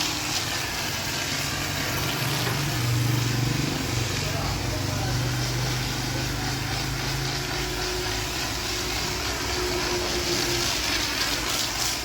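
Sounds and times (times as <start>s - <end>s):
motor running: 0.0s - 12.0s.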